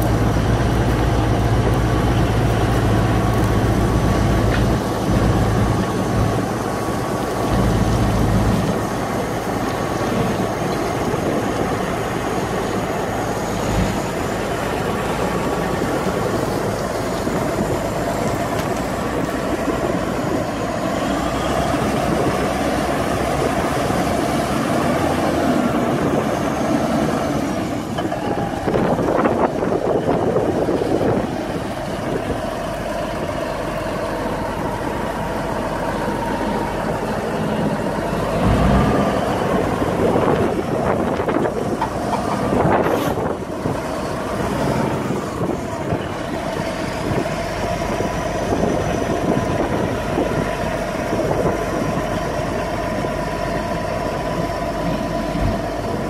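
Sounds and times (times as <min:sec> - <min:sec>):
bulldozer diesel engine under load: 0:00.0 - 0:56.0
bulldozer tracks and earth rumbling: 0:00.0 - 0:56.0.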